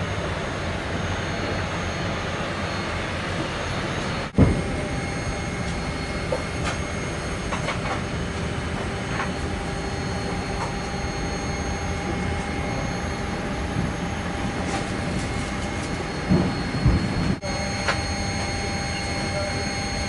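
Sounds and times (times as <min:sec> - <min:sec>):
airplane cabin airflow: 0:00.0 - 0:20.0
faint hum tones: 0:00.0 - 0:20.0.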